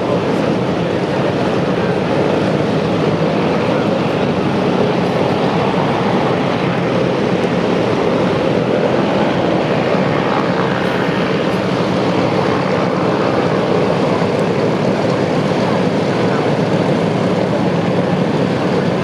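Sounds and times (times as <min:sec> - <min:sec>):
piston aircraft engines running: 0:00.0 - 0:19.0.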